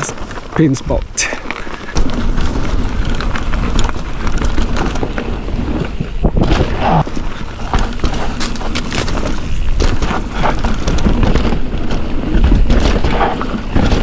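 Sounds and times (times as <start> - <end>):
bike clicks and knocks: 0.0 - 14.0
mountain bike rolling on dirt: 0.0 - 14.0
wind buffeting microphone: 0.0 - 14.0.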